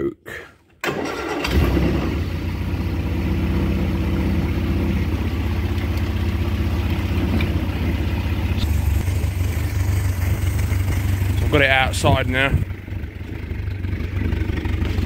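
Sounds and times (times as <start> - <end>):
petrol engine running: 0.9 - 15.0.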